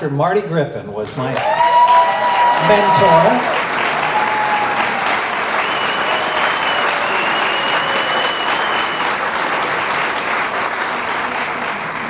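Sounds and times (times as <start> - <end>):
audience applauding: 1.0 - 12.0.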